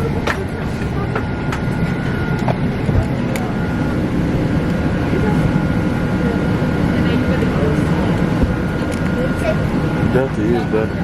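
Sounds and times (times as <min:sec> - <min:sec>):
low vehicle engine rumble: 0:00.0 - 0:11.0.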